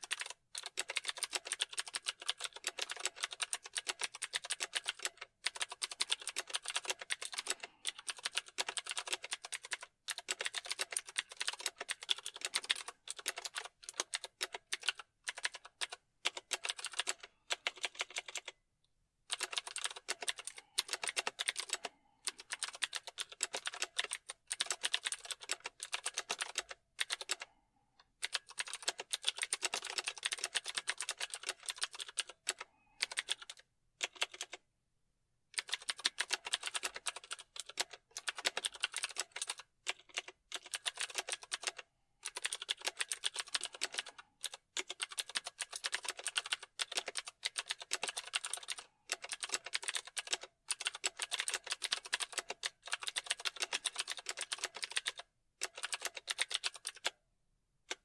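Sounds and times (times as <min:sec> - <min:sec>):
typing on keyboard: 0:00.0 - 0:18.6, 0:19.3 - 0:34.6, 0:35.6 - 0:57.2.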